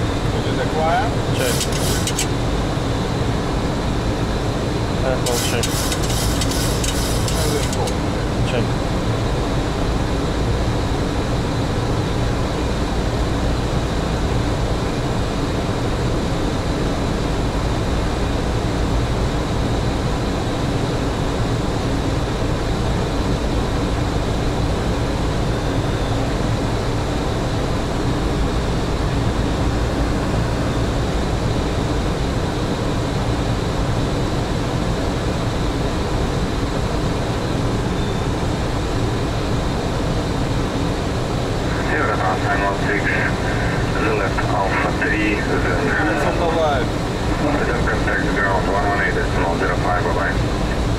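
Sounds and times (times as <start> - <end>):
airflow and engine rush: 0.0 - 50.9.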